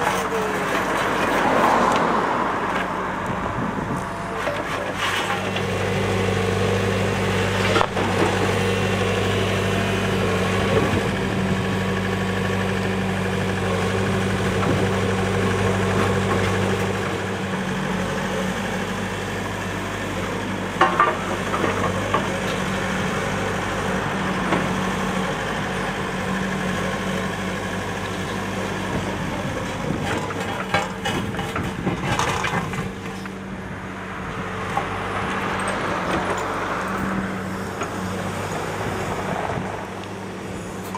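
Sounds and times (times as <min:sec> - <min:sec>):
diesel excavator engine running: 0:00.0 - 0:40.9.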